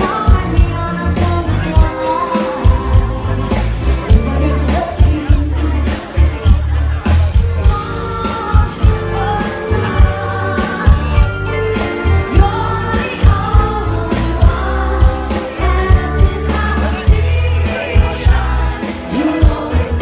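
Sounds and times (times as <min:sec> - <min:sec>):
woman singing: 0:00.0 - 0:06.6, 0:07.6 - 0:20.0
bass guitar: 0:00.0 - 0:20.0
keyboards: 0:00.0 - 0:20.0.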